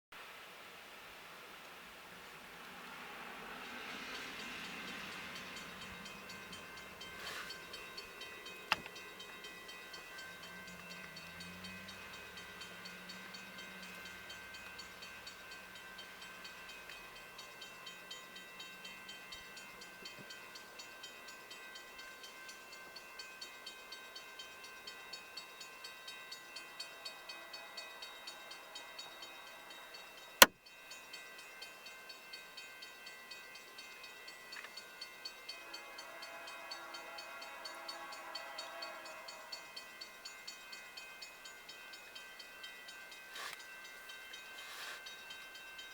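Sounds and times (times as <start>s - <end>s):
low rumble of freight train: 0.2s - 45.9s
crossing warning bell ringing: 2.6s - 45.9s.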